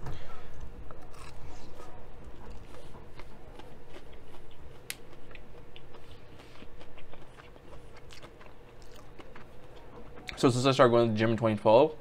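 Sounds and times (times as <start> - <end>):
chewing crispy food: 0.6 - 10.4.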